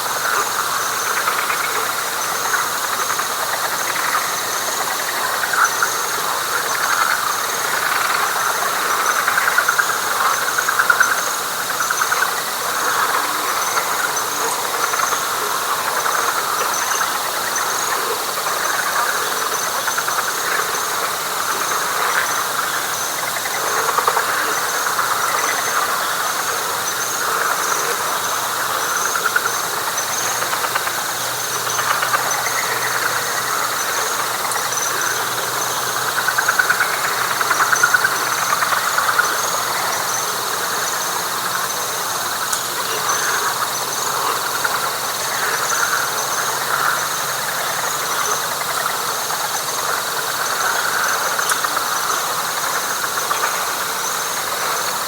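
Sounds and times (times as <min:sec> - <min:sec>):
frogs trilling: 0:00.0 - 0:55.0
high insect drone: 0:00.0 - 0:55.0.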